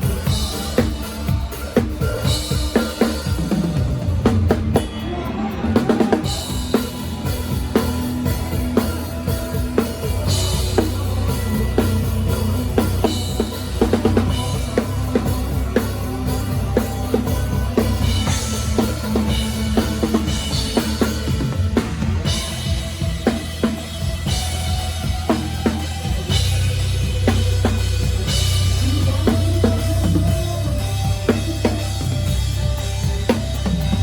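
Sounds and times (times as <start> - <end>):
bass line: 3.4 - 34.0
band instruments playing: 4.7 - 34.0.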